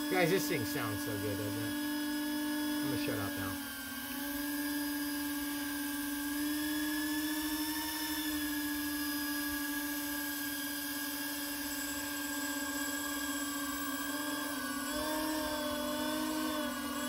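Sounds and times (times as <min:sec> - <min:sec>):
electric ducted fans whining: 0:00.0 - 0:17.0.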